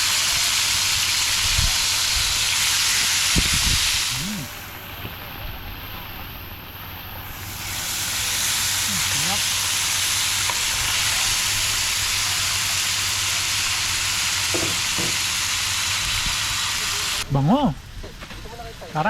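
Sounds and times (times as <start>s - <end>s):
food sizzling in a frying pan: 0.0s - 17.3s.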